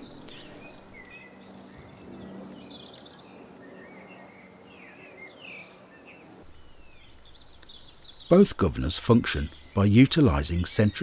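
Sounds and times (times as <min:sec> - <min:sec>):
birds chirping: 0:00.0 - 0:11.0
low steady hum: 0:00.0 - 0:11.0.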